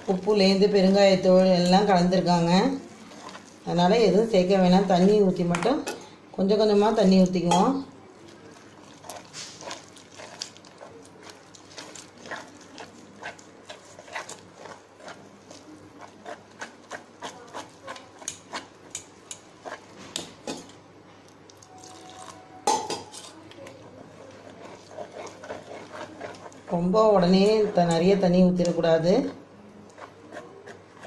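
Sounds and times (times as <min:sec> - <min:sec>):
whisk clicking and scraping in pan: 0:00.0 - 0:04.9, 0:08.6 - 0:20.8, 0:22.7 - 0:31.0.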